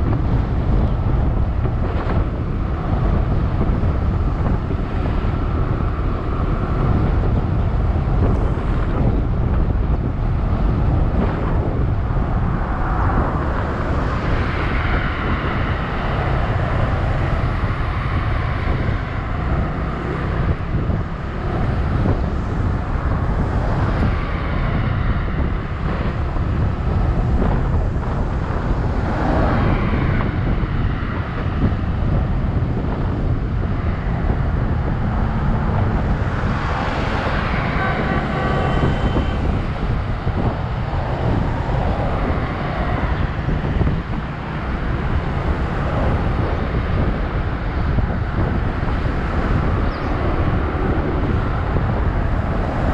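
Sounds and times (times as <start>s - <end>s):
road traffic: 0.0s - 52.9s
wind buffeting microphone: 0.0s - 52.9s.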